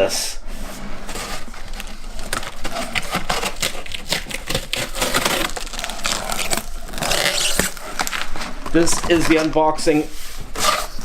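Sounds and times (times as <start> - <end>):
cardboard box scraping and rustling: 0.6 - 11.0.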